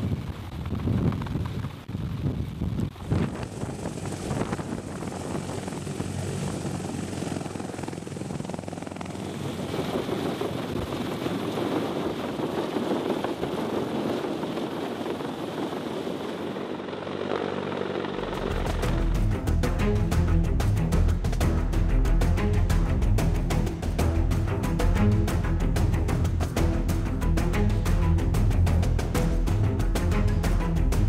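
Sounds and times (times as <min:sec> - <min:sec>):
helicopter rotors and engines: 0:00.0 - 0:31.0.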